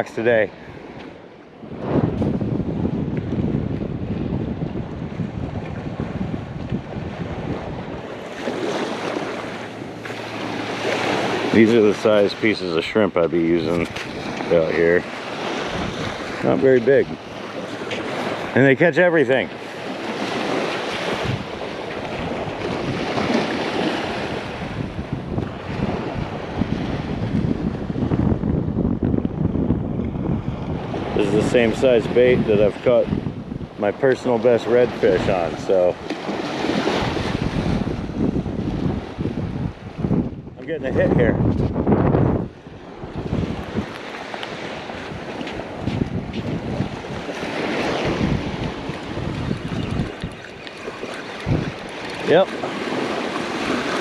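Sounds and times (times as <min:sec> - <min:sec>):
gusty wind buffeting microphone: 0:00.0 - 0:54.0
surf washing: 0:00.0 - 0:54.0.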